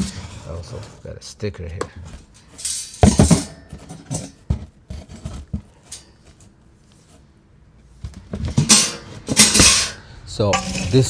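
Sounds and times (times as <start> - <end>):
rustling: 0.0 - 11.0.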